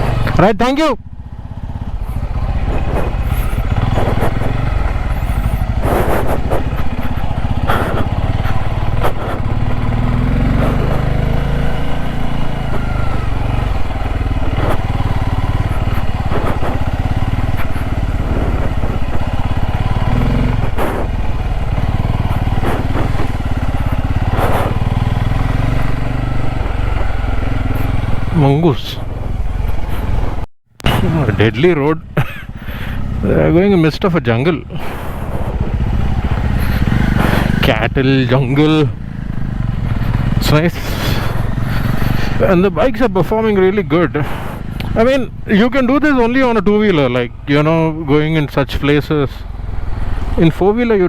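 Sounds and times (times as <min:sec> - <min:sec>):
knocks and buffets: 0:00.0 - 0:51.0
motorcycle engine running: 0:00.0 - 0:51.0.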